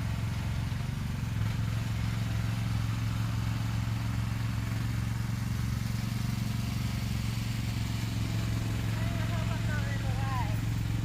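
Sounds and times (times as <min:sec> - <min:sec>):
vehicle engine low hum: 0:00.0 - 0:11.0.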